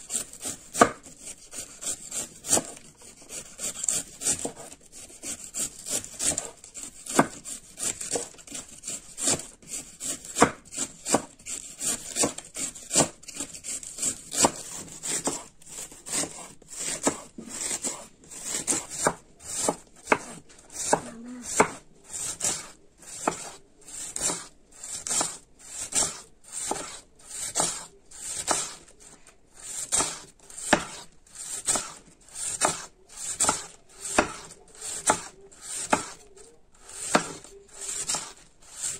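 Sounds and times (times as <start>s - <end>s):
knife slicing cabbage on board: 0.0s - 36.2s, 36.8s - 38.9s.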